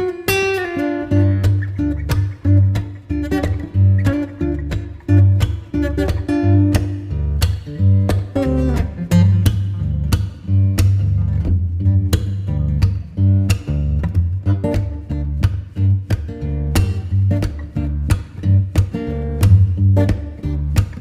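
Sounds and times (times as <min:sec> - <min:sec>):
acoustic guitar strumming chords: 0:00.0 - 0:21.0
bass line: 0:01.1 - 0:21.0.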